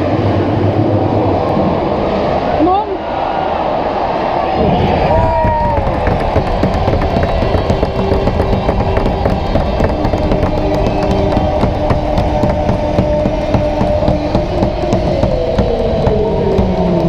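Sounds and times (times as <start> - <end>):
dense crowd din: 0.0 - 17.0.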